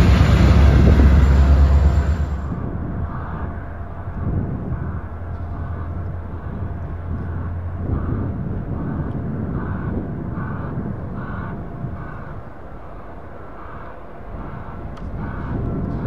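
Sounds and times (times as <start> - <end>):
locomotive engine drone: 0.0 - 16.0
train rumble with regular beat: 0.0 - 16.0.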